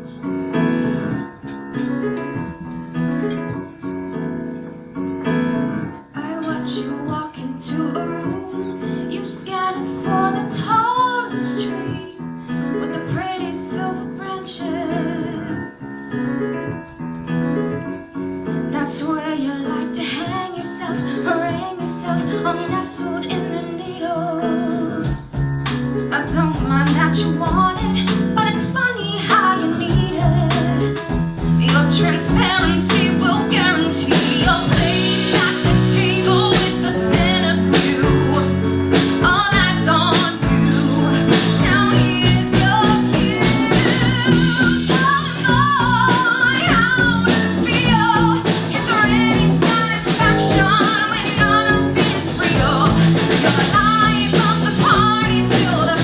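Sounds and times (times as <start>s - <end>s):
piano accompaniment: 0.0s - 56.0s
woman singing: 6.1s - 16.1s, 18.6s - 25.5s, 26.1s - 56.0s.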